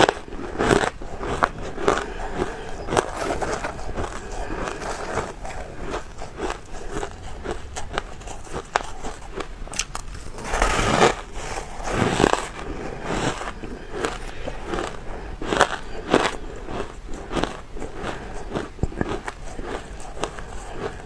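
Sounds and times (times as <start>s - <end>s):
chewing and crunching ice: 0.0s - 21.0s.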